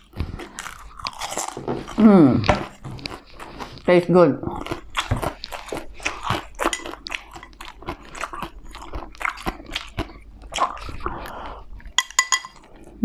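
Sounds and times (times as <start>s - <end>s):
crunchy chewing: 0.0s - 3.9s, 4.5s - 13.0s
wet mouth sounds: 0.0s - 12.0s.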